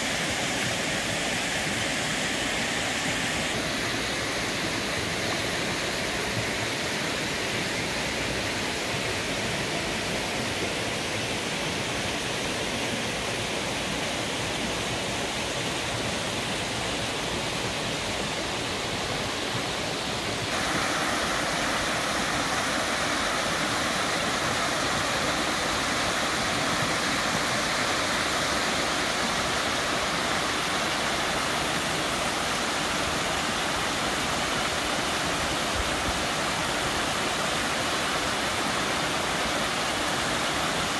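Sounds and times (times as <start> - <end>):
stream water rushing over rocks: 0.0 - 40.9.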